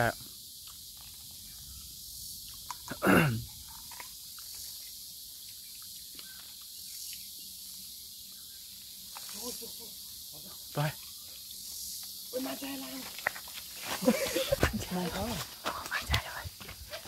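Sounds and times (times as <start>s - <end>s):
insect chirring: 0.0s - 17.0s
mouth and leaf noises eating: 0.3s - 17.0s.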